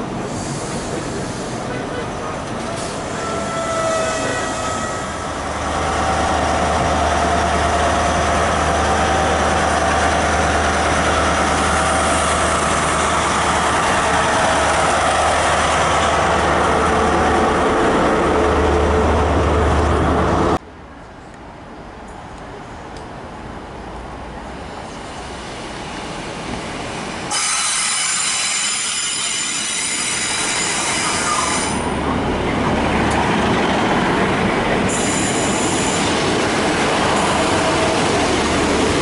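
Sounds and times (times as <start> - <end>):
train wheels rumbling on rails: 0.0 - 20.6, 24.6 - 39.0
diesel train engine drone: 0.0 - 39.0.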